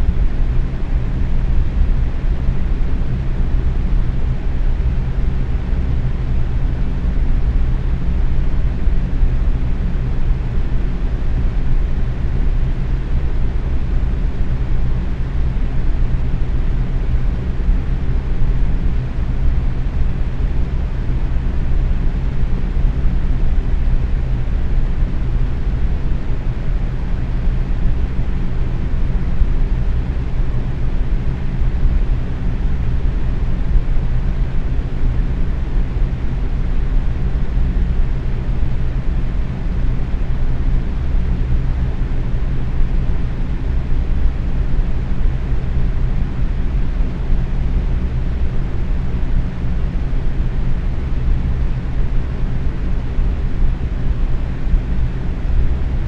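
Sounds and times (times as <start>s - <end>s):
box fan running: 0.0s - 56.0s.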